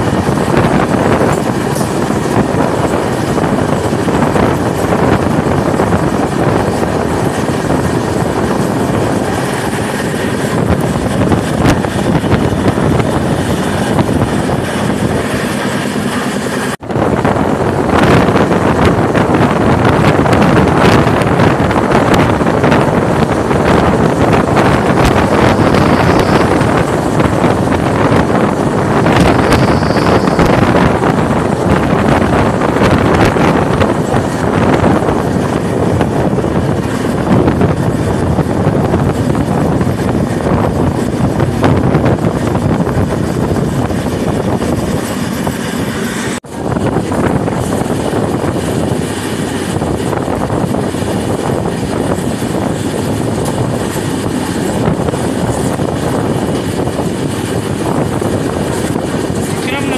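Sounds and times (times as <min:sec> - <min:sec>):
train running at speed: 0:00.0 - 0:59.9
wind buffeting microphone: 0:00.0 - 0:59.9.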